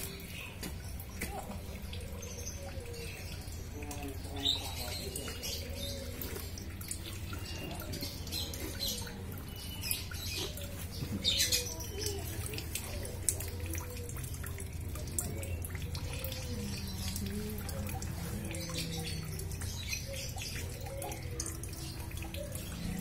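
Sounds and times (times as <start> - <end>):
kitten lapping water: 0.0 - 23.0.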